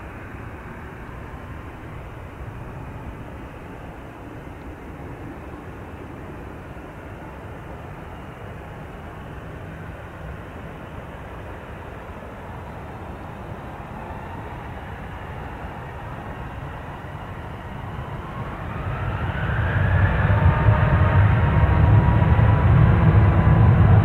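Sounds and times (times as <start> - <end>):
jet engines rumbling and whining: 0.0 - 24.0.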